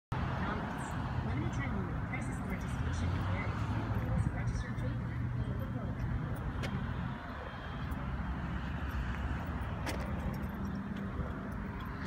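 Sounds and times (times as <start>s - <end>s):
outdoor background noise: 0.1s - 12.0s.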